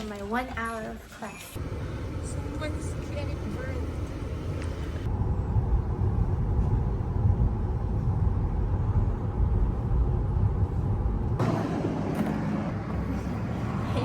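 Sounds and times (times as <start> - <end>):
car interior road and engine rumble: 1.6 - 14.0.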